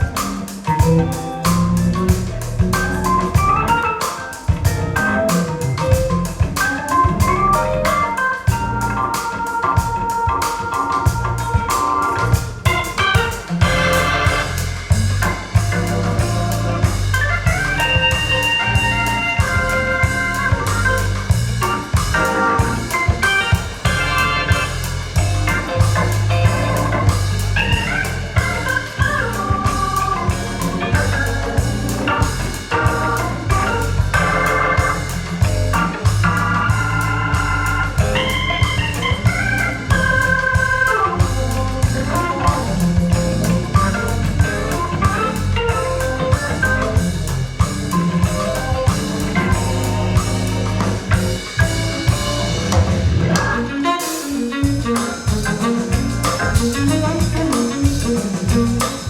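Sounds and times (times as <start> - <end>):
instrumental music over loudspeakers: 0.0 - 59.0.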